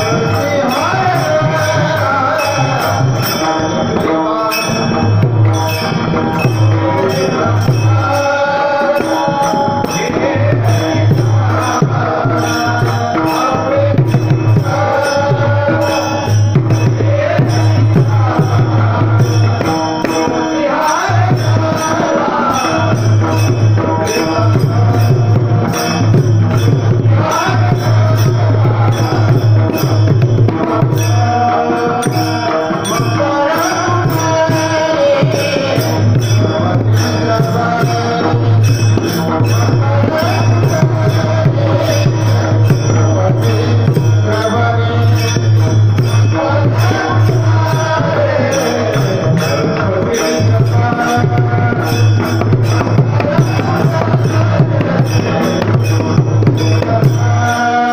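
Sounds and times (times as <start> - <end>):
percussion beat: 0.0 - 57.9
person singing devotional chant: 0.0 - 57.9.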